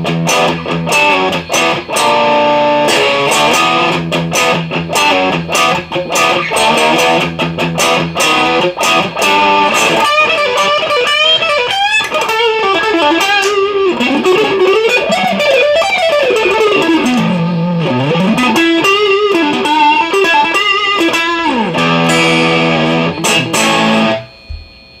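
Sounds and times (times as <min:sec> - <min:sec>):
clean electric guitar playing: 0:00.0 - 0:24.6.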